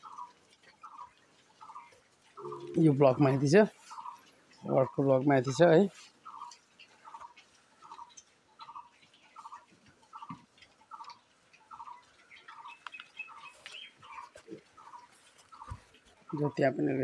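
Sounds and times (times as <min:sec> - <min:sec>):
piglets feeding clicks and snuffles: 0:00.0 - 0:17.0.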